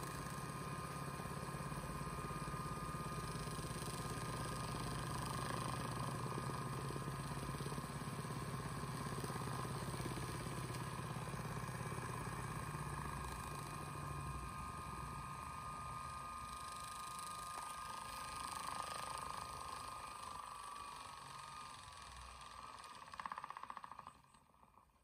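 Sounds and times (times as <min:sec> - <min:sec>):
spinning wheel motors whirring: 0:00.0 - 0:24.6.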